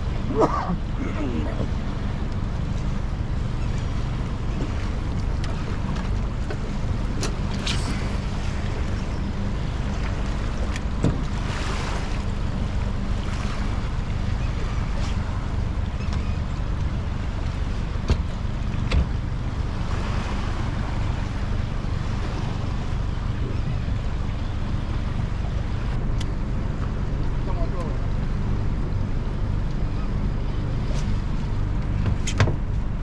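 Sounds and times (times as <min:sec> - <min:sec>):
boat motor running: 0:00.0 - 0:33.0
water noise: 0:00.0 - 0:33.0
wind: 0:00.0 - 0:33.0.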